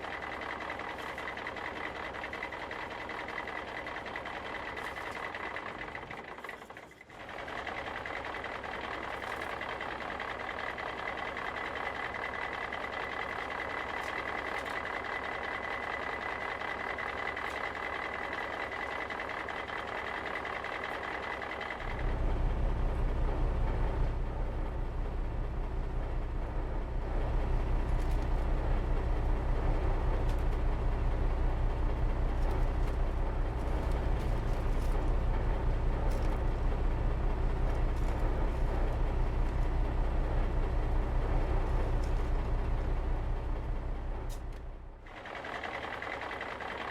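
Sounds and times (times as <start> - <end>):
construction machine engine whining: 7.2 - 46.9.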